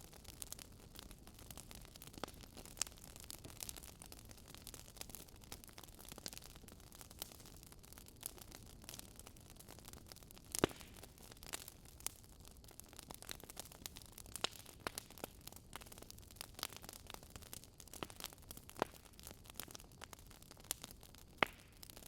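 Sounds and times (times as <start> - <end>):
fire crackling in fireplace: 0.0 - 22.0.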